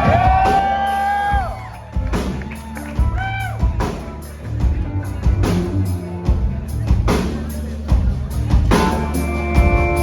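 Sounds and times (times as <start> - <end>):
bass guitar notes: 0.0 - 10.0
drum kit beating a groove: 0.0 - 10.0
guitar: 0.0 - 10.0.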